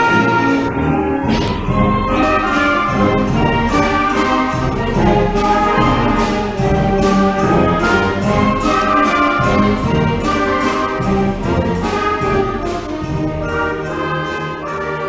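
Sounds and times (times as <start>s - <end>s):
concert band playing: 0.0s - 15.0s
percussion strokes: 0.0s - 15.0s.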